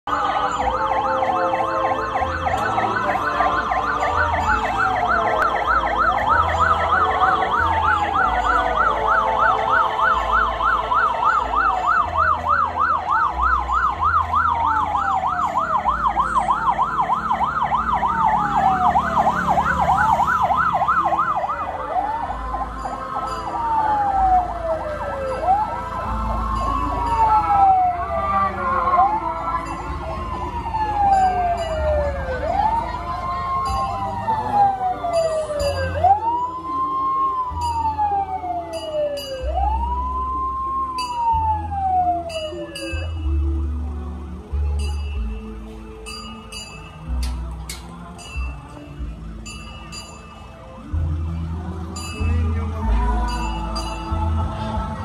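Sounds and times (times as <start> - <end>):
siren slow wail: 0.0 - 44.6.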